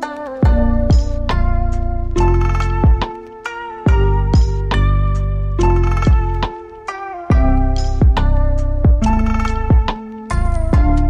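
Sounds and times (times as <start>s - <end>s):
plucked melody: 0.0s - 11.0s
deep bass hits: 0.5s - 3.1s, 3.9s - 6.5s, 7.3s - 11.0s.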